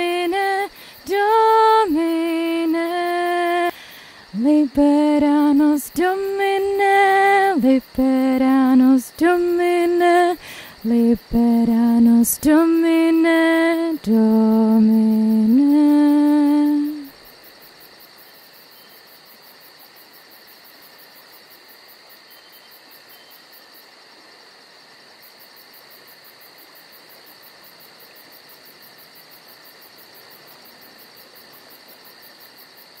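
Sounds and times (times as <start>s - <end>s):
faint background hiss: 0.0s - 33.0s.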